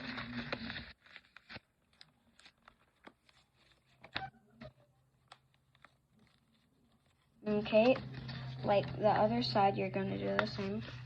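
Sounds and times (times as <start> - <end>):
paper being folded and creased: 0.0 - 8.9, 10.4 - 11.0.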